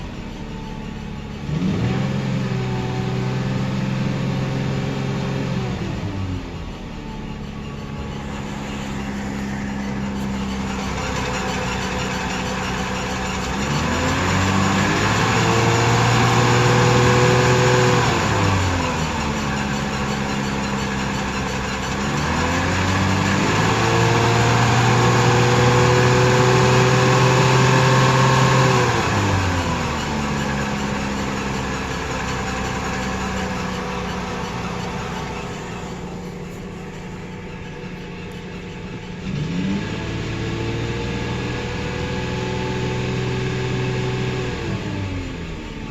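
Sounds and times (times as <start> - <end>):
engine idling and revving: 0.0 - 45.9.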